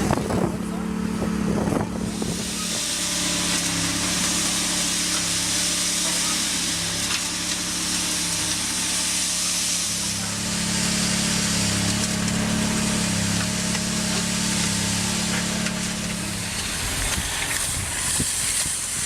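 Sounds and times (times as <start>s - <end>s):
heavy machine engine running: 0.0s - 19.0s.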